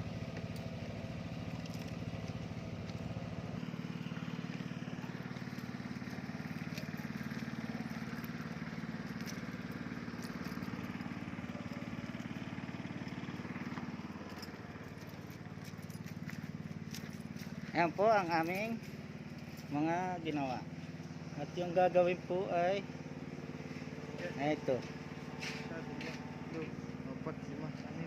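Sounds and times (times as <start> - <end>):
small boat engine running: 0.0 - 28.0.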